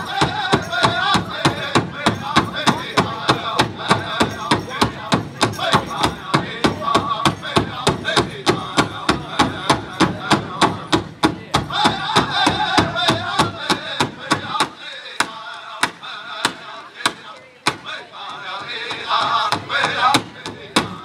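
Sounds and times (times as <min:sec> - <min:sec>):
big drum fast steady beat: 0:00.0 - 0:21.0
group singing: 0:00.0 - 0:21.0.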